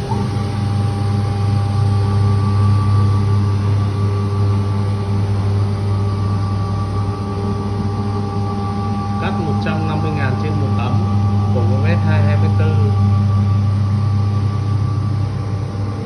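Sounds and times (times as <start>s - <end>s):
cnc router humming and whining: 0.0s - 16.0s.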